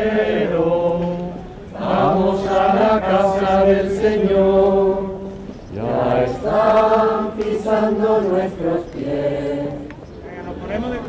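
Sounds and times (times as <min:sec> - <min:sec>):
group singing chant: 0:00.0 - 0:10.1.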